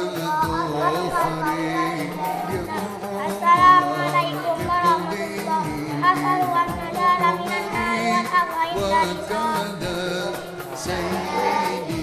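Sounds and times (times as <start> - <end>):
drum strokes: 0.0 - 12.0
song with singing voice: 0.0 - 12.0.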